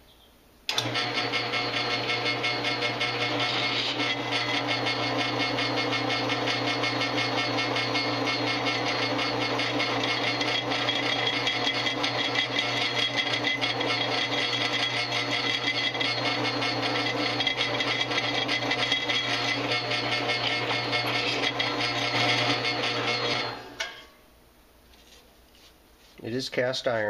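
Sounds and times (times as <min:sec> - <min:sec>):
drill bit cutting metal: 0:00.7 - 0:23.9
drill press motor hum: 0:00.7 - 0:23.9.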